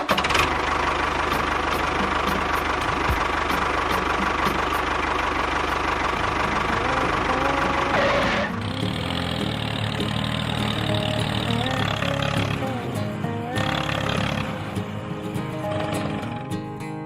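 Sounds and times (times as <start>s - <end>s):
small engine running steadily: 0.0s - 16.8s.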